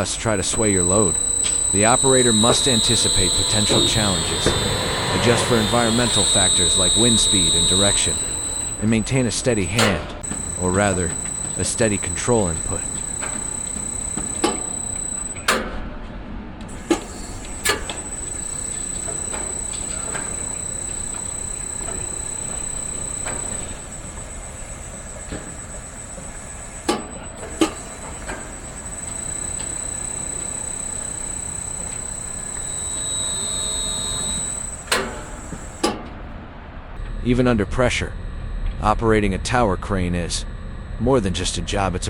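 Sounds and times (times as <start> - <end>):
crane machinery rumble: 0.0 - 15.5, 16.7 - 35.9
high-pitched machine whine: 0.0 - 15.6, 16.7 - 36.0, 37.0 - 42.0.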